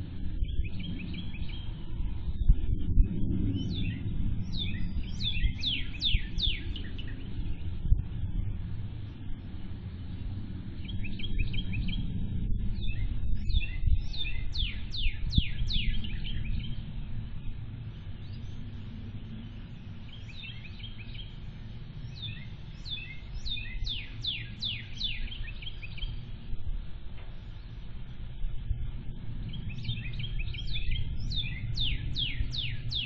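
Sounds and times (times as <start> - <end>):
songbird singing: 0.0 - 33.0
steady low rumble: 0.0 - 33.0.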